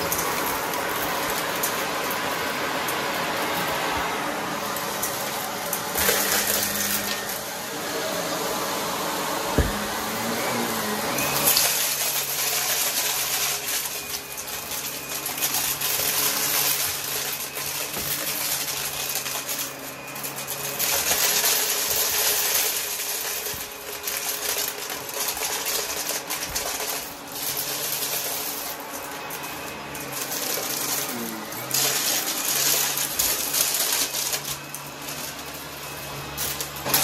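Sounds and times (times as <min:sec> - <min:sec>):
vacuum cleaner motor humming: 0:00.0 - 0:37.0.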